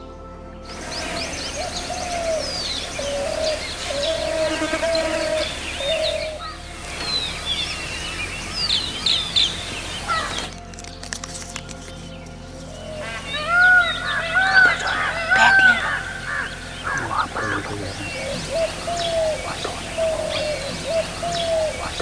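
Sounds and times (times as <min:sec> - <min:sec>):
low repeated bird call: 0:00.0 - 0:11.0, 0:12.0 - 0:22.0
background music: 0:00.0 - 0:22.0
forest birds chirping: 0:00.0 - 0:22.0.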